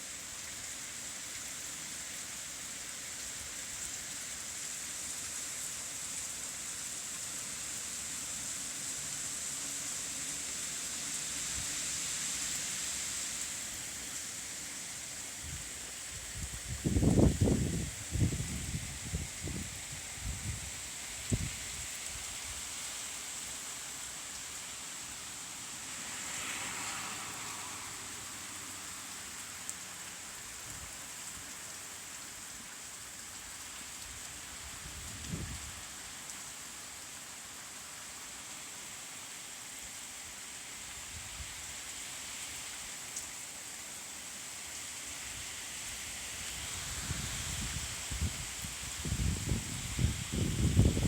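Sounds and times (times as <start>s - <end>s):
wind-driven rain: 0.0s - 51.0s.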